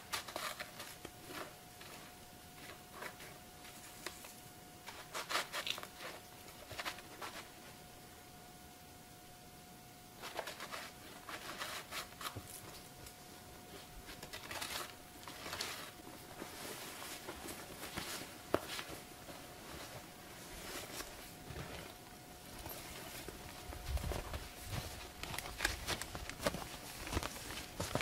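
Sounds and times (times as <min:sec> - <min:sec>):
rustling and light scraping: 0:00.0 - 0:07.8, 0:10.2 - 0:28.0.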